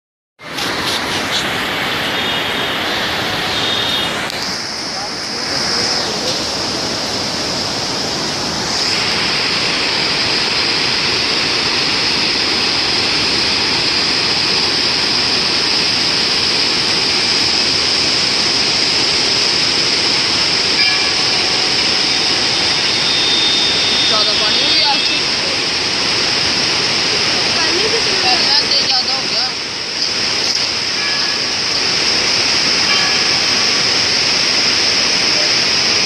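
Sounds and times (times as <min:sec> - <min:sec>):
river water rushing: 0:00.4 - 0:36.0.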